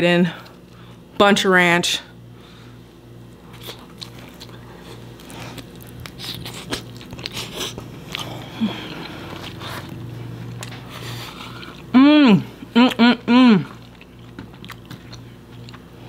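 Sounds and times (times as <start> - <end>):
person chewing crunchy pizza: 2.5 - 16.0.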